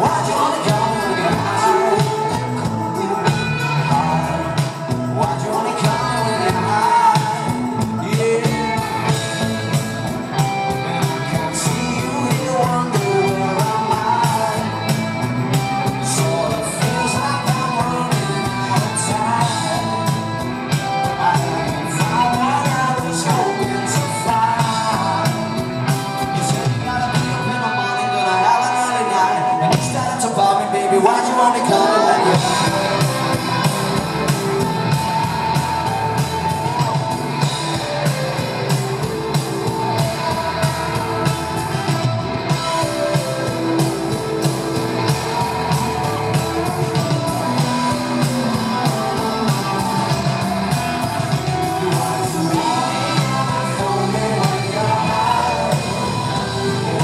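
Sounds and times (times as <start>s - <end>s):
drum beat: 0.0s - 27.5s, 31.6s - 57.0s
bass guitar: 0.0s - 57.0s
electric guitar: 0.0s - 57.0s
person singing: 0.0s - 57.0s.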